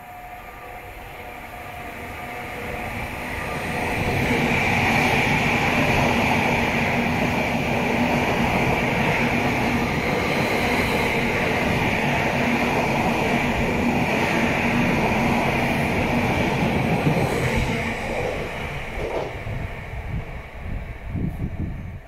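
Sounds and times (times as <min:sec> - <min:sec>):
train hum: 0:00.0 - 0:22.0
train wheels rushing on rail: 0:00.0 - 0:22.0.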